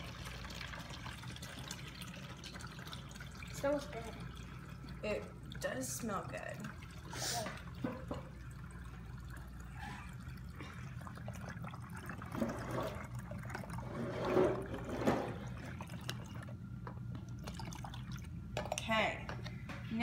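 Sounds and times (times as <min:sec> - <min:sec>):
liquid pouring into a bottle: 0:00.0 - 0:18.5.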